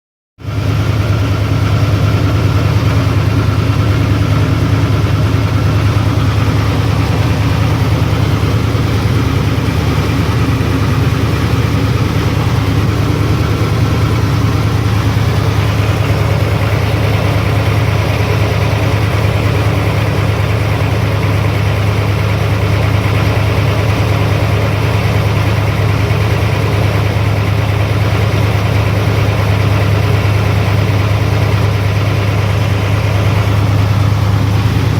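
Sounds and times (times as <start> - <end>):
engine idling with knock: 0.4 - 34.9.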